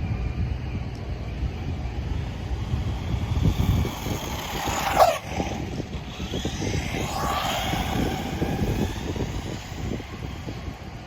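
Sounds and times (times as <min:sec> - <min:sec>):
toy car electric motor whining: 0:01.7 - 0:11.0.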